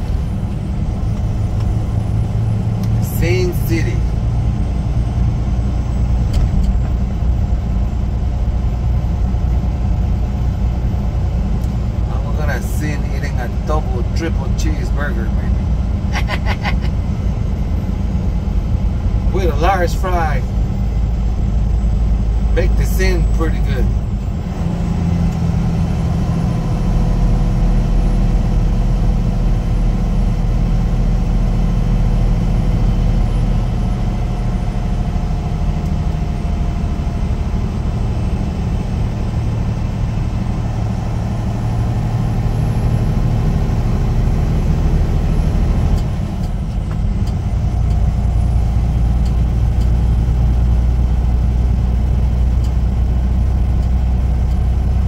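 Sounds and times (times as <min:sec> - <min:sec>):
road noise: 0:00.0 - 0:55.0
truck diesel engine drone: 0:00.0 - 0:55.0.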